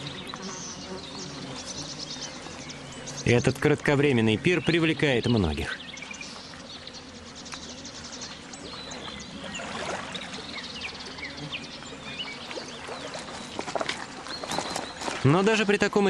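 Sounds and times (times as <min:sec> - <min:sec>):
bird chirps: 0:00.0 - 0:15.8.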